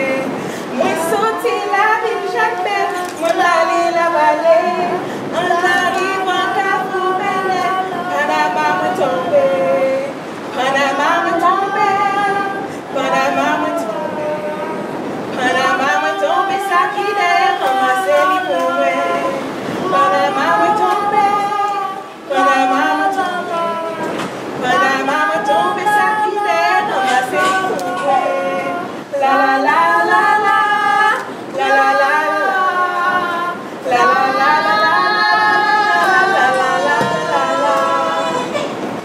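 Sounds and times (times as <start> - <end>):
young women singing together: 0.0 - 39.0.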